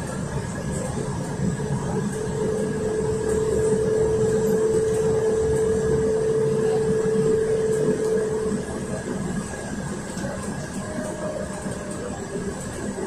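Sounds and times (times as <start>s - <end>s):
bus drivetrain and road rumble: 0.0s - 13.0s
steady engine whine: 0.0s - 13.0s.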